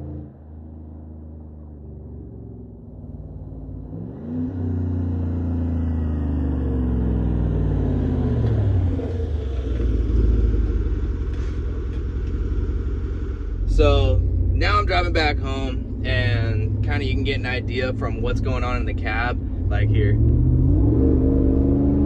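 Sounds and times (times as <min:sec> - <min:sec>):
pickup truck engine driving by: 0:00.0 - 0:20.8.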